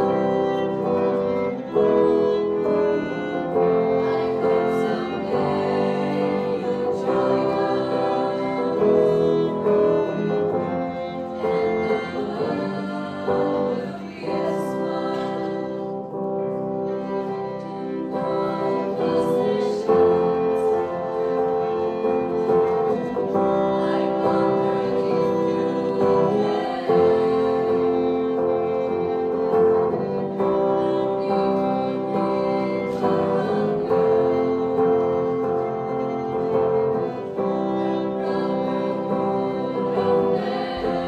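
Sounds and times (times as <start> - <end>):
electric guitar: 0.0 - 41.0
grand piano: 0.0 - 41.0
violin: 0.0 - 41.0
women singing together: 0.0 - 41.0.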